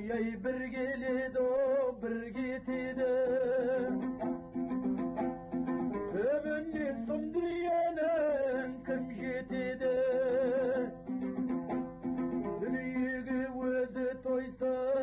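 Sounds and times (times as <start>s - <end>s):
strummed lute: 0.0s - 15.0s.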